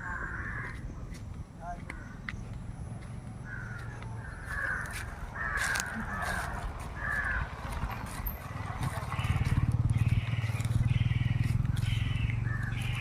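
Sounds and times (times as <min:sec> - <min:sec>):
crows cawing: 0:00.0 - 0:00.9, 0:03.4 - 0:13.0.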